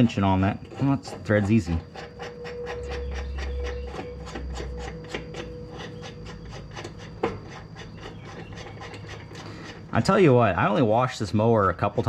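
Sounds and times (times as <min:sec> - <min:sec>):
wrench scraping metal nut: 0:00.0 - 0:10.3.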